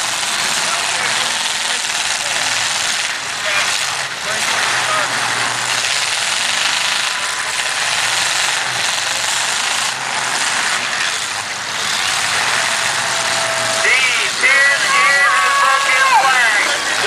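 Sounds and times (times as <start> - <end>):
car engines running hard: 0.0 - 17.0.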